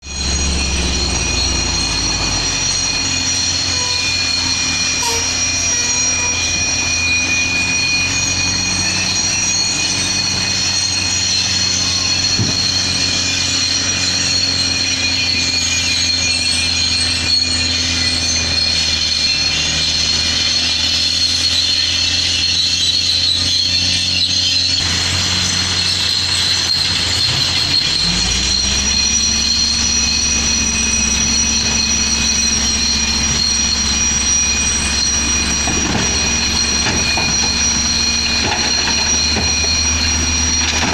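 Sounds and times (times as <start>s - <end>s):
high-pitched whistling tones: 0.0s - 24.9s, 25.6s - 40.9s
dump truck diesel engines: 0.0s - 40.9s.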